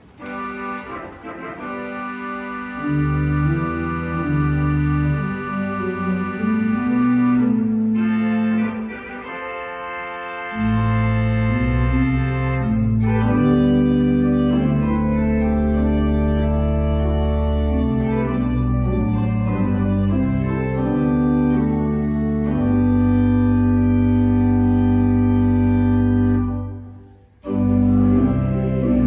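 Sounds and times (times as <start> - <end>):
organ playing a hymn: 0.0 - 29.0.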